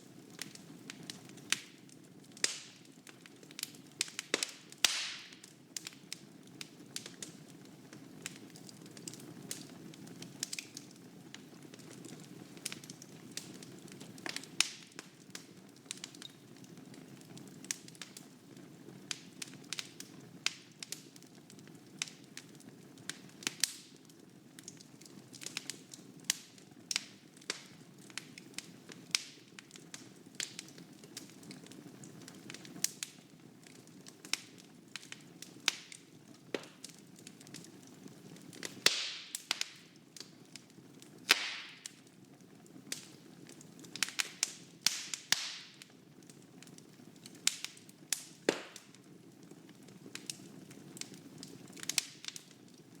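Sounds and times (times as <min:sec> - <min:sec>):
fire crackling and popping: 0:00.0 - 0:53.0
wood fire hissing: 0:00.0 - 0:53.0.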